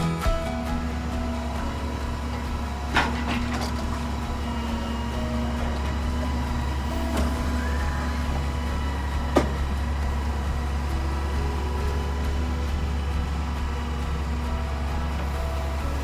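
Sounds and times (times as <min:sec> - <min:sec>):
diesel engine running under load: 0:00.2 - 0:16.0.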